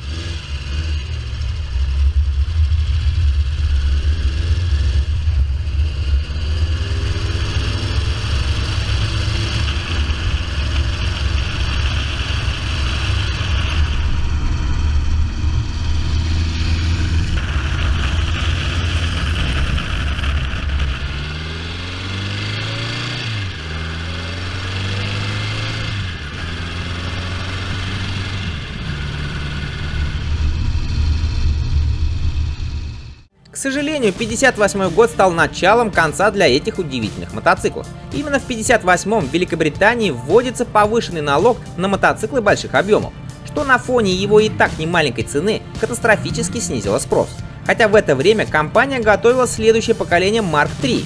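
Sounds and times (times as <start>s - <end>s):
motorcycle engine accelerating: 0.0s - 51.0s.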